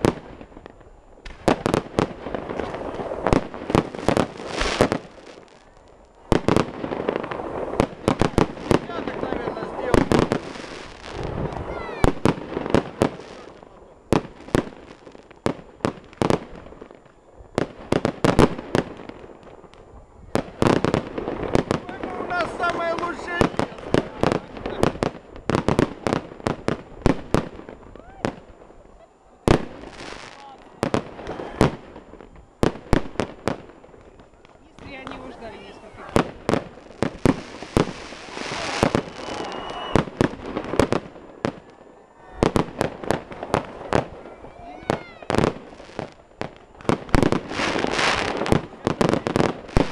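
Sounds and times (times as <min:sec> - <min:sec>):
fireworks bangs and pops: 0:00.0 - 0:49.9.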